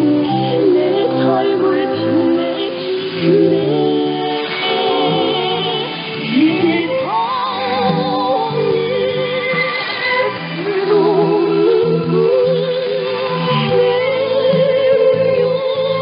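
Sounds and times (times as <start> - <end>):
female vocal trio singing: 0.0 - 16.0
instrumental accompaniment: 0.0 - 16.0.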